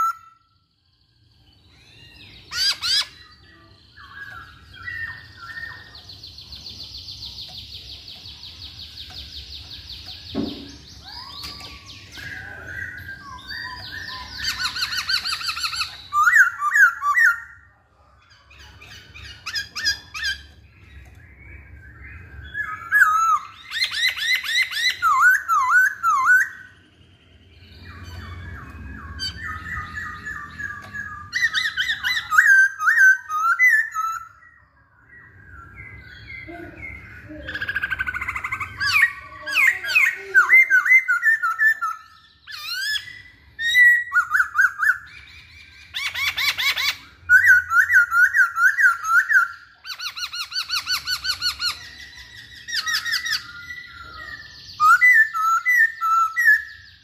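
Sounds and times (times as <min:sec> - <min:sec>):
bird singing whistled phrases: 0:00.0 - 0:00.6, 0:01.6 - 0:17.6, 0:18.9 - 0:26.8, 0:27.4 - 0:57.0.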